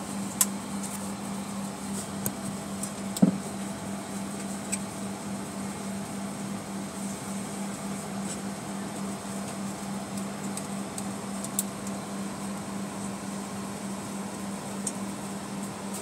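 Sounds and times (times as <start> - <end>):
airliner cabin ventilation hum: 0.0 - 16.0.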